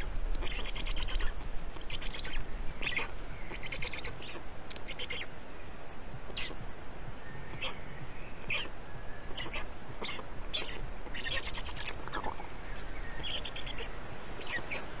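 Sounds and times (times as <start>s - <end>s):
high bird chirps: 0.0s - 5.3s, 7.3s - 15.0s
steady low rumble: 0.0s - 15.0s.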